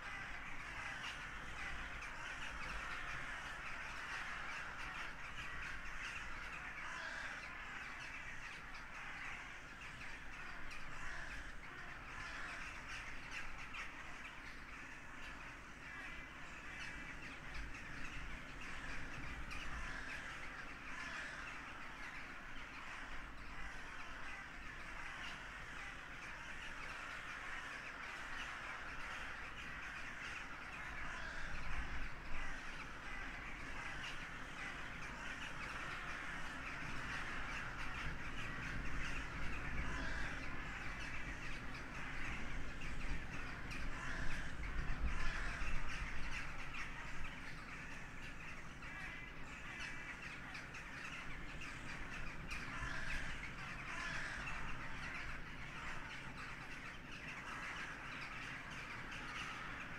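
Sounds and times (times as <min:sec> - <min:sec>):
crows cawing: 0:00.0 - 0:59.9.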